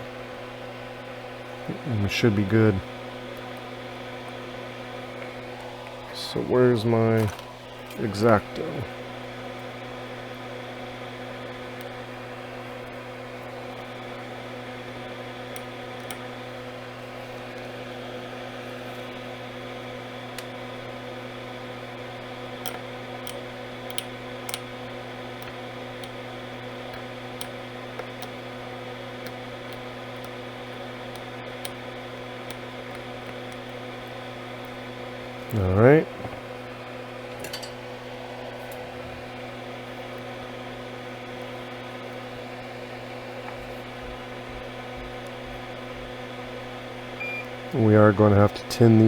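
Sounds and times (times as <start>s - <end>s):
electrical hum of equipment: 0.0s - 49.0s.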